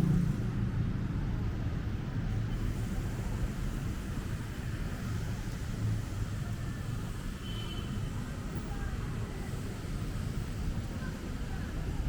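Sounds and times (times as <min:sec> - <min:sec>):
city road traffic rumble: 0:00.0 - 0:12.0.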